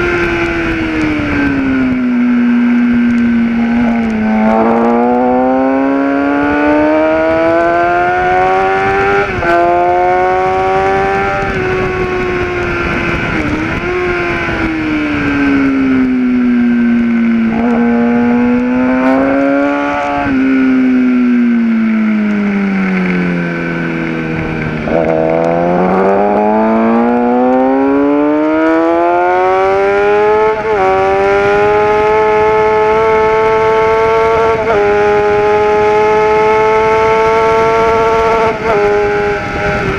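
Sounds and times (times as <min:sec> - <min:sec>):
sportbike engine revving: 0:00.0 - 0:39.9
wind rush: 0:00.0 - 0:39.9.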